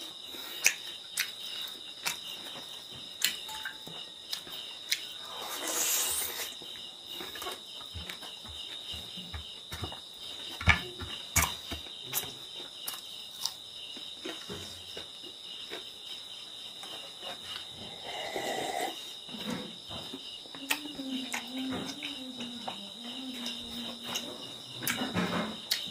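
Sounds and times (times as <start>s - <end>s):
insect chirring: 0.0s - 25.9s.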